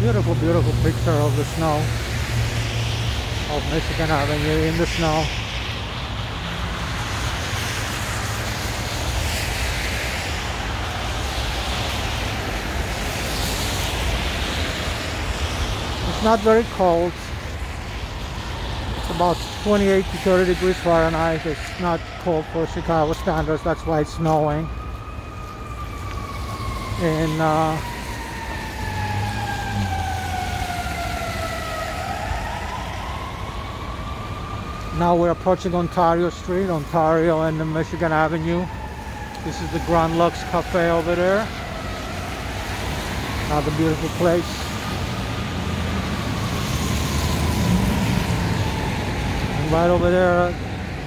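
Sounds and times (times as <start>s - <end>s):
city street traffic: 0.0s - 51.0s
rumble of passing cars: 0.0s - 51.0s
siren wailing: 0.0s - 51.0s
tyres hissing on snowy road: 0.0s - 51.0s.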